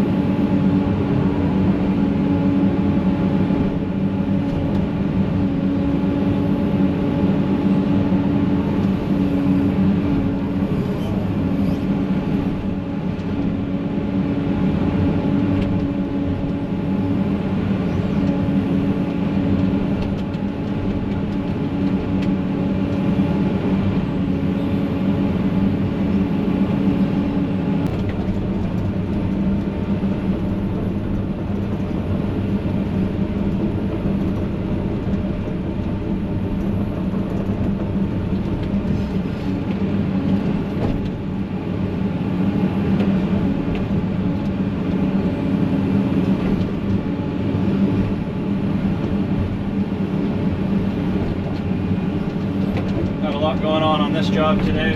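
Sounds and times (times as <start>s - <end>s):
diesel machinery engine running: 0.0s - 54.9s.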